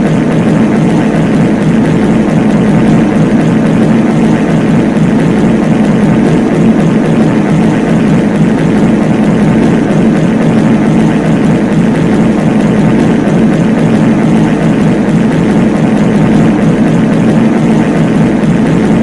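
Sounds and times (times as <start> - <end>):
layered fart sound effects drone: 0.0 - 19.0.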